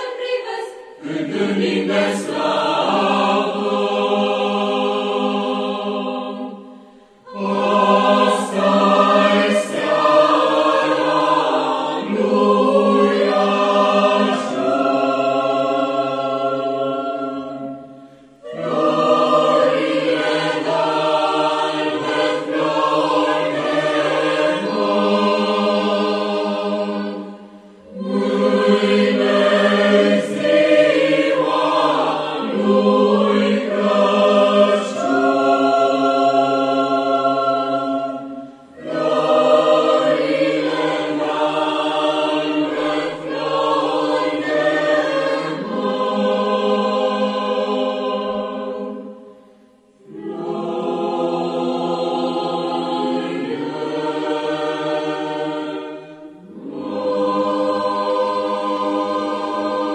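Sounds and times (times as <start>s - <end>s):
choir singing held notes: 0.0s - 59.9s.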